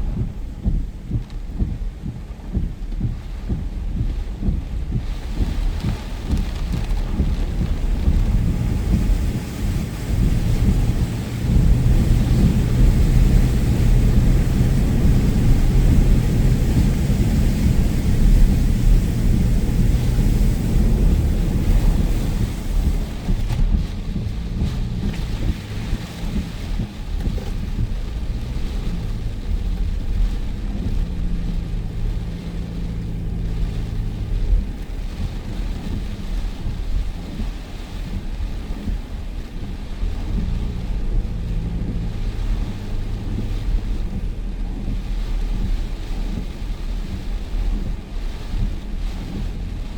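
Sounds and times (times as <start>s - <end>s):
rain hissing: 0.0s - 49.9s
vehicle low rumble: 0.0s - 49.9s
wind buffeting microphone: 0.0s - 49.9s.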